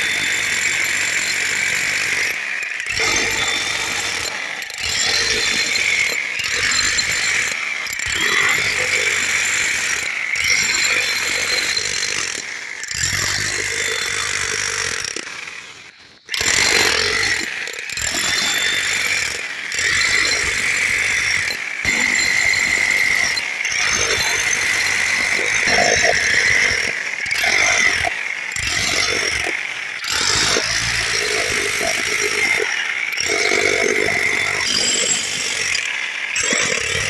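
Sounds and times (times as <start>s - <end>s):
power tool running: 0.0s - 37.0s.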